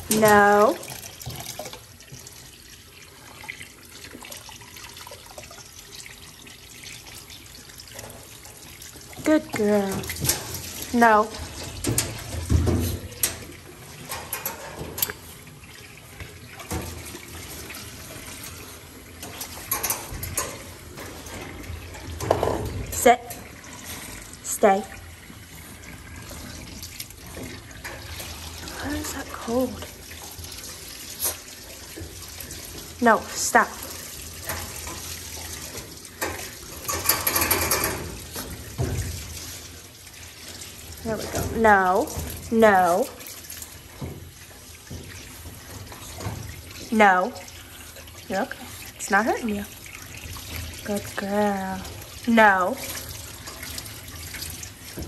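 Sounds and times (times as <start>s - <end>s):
water running in metal tub: 0.0s - 55.0s.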